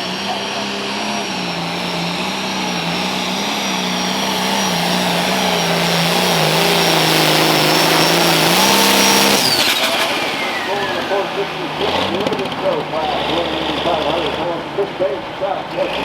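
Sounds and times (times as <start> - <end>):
high turbo whine: 0.0 - 16.0
tractor engine running under load: 0.0 - 16.0.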